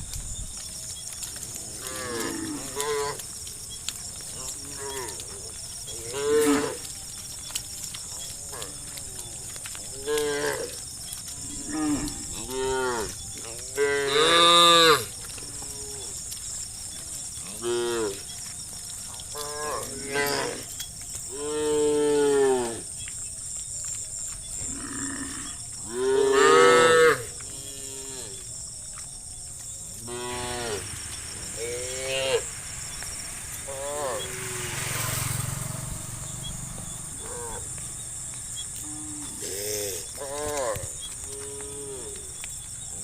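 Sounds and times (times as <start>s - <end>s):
cows mooing: 1.3s - 3.4s, 4.2s - 16.4s, 17.0s - 18.5s, 19.2s - 22.9s, 24.6s - 28.5s, 30.0s - 38.0s, 38.7s - 42.4s.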